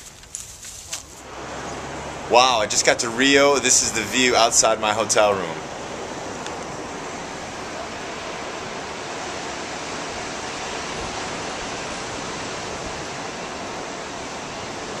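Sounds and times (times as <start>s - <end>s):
ocean surf rushing: 1.2s - 15.0s.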